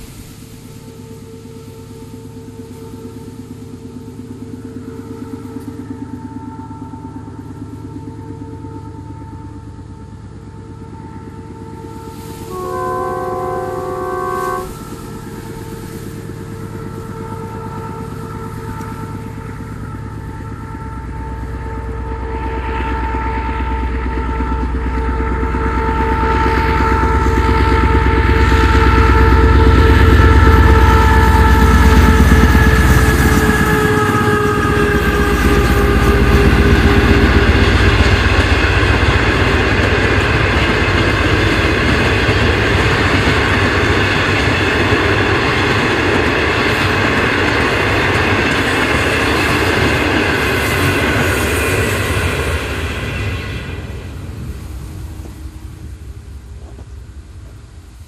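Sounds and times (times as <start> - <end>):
locomotive rumbling: 0.0 - 58.0
steady whining tones: 0.0 - 58.0.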